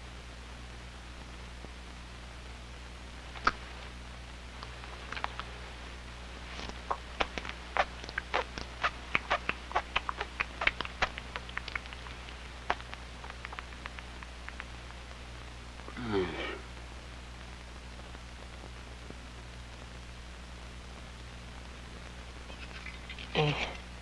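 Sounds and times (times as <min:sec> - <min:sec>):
low film soundtrack hum: 0:00.0 - 0:24.0.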